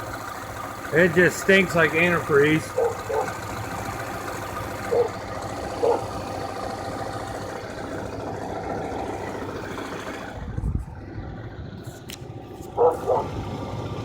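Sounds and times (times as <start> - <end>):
car engine idling roughly: 0.0 - 14.0.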